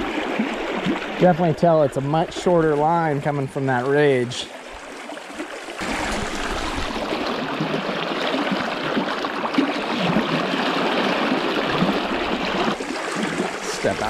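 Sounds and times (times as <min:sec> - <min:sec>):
river current rushing and splashing: 0:00.0 - 0:14.0.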